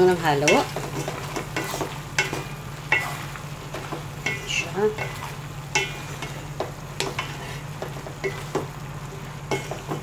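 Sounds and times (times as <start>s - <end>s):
wooden spatula scraping metal pot: 0.0s - 8.7s
faint sizzle: 0.0s - 10.0s.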